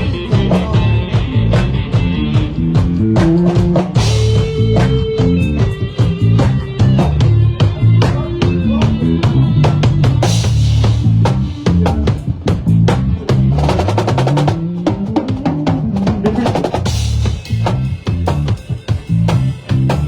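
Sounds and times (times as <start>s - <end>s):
bass line: 0.0s - 20.0s
drum kit beat: 0.0s - 20.0s
fast drum roll: 0.0s - 20.0s.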